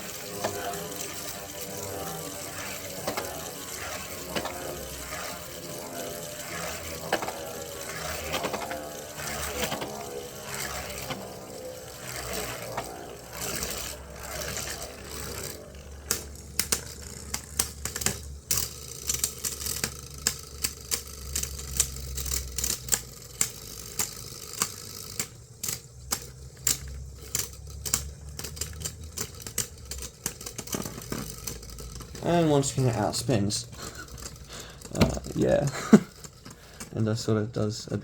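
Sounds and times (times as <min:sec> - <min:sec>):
spinning tops clattering together: 0:00.0 - 0:37.0
spinning tops whirring: 0:00.0 - 0:38.0.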